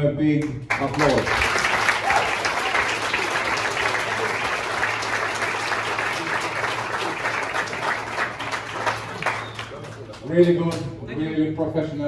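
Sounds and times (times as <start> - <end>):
audience applauding: 0.7 - 10.5.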